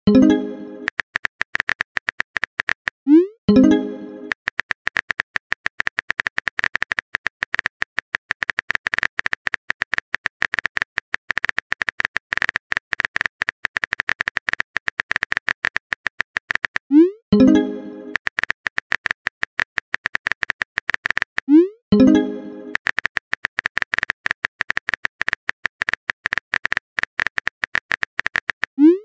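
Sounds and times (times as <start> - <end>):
phone keyboard typing clicks: 0.1 - 28.9.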